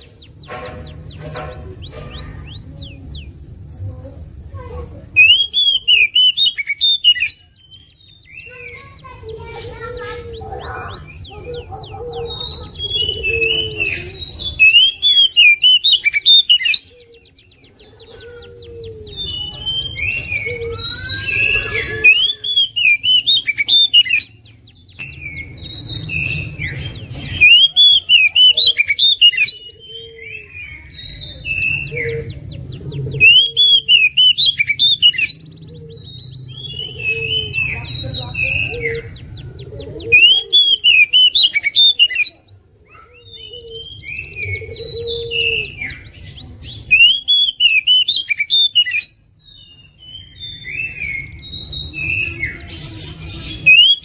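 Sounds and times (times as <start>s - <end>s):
bird singing whistled trills: 0.0s - 3.8s, 5.1s - 54.0s.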